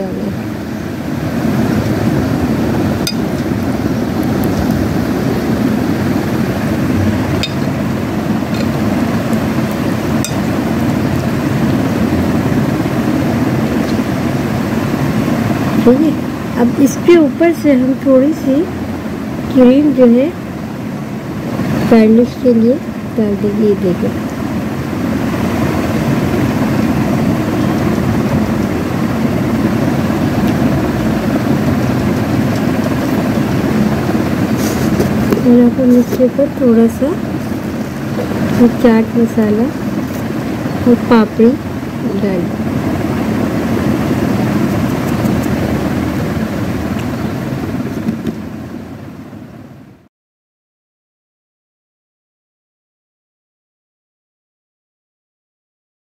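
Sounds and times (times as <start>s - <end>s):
low rumbling background noise: 0.0s - 50.1s
machine droning: 0.0s - 50.1s.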